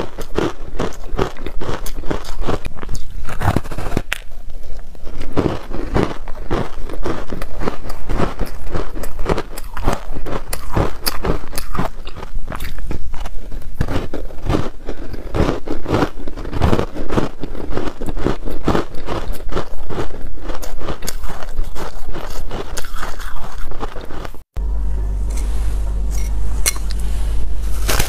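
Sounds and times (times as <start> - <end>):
teeth crunching frozen ice bar: 0.0 - 24.5.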